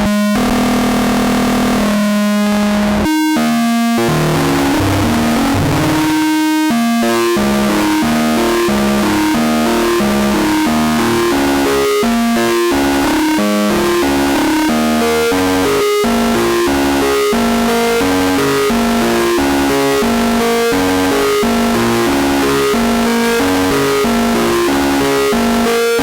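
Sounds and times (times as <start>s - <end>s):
dense noisy electronic layer: 0.0s - 26.0s
synthesizer melody: 0.0s - 26.0s.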